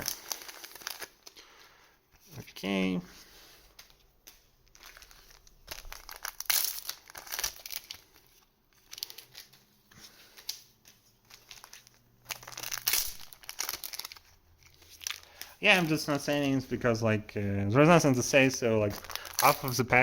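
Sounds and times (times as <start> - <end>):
wrappers crinkling and tearing: 0.0 - 20.0.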